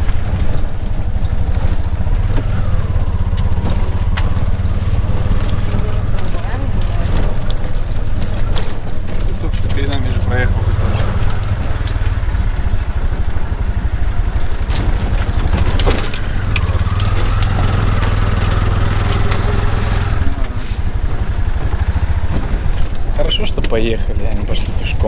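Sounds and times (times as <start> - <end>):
tuk-tuk engine droning: 0.0 - 25.0.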